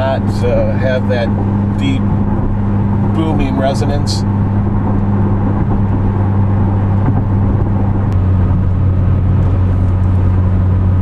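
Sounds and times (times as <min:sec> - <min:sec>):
low exhaust drone: 0:00.0 - 0:11.0
road and wind noise: 0:00.0 - 0:11.0.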